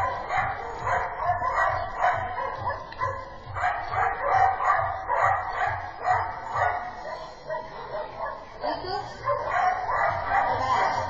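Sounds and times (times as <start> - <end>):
dog barking: 0.0 - 8.6, 9.2 - 11.0.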